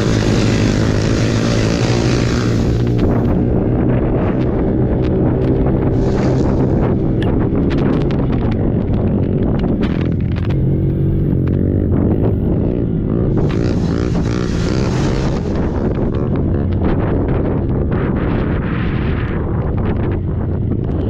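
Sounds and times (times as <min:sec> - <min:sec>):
quad engine revving: 0:00.0 - 0:17.4
wind buffeting microphone: 0:00.0 - 0:21.0.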